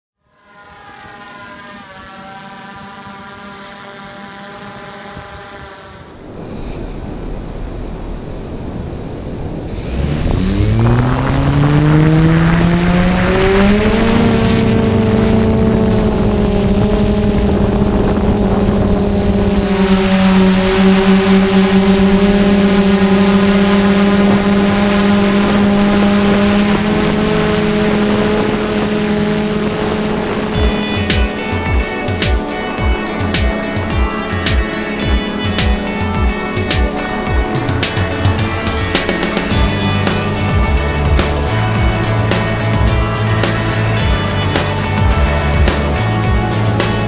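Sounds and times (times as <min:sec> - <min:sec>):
quadcopter motors whining: 0:00.2 - 0:47.0.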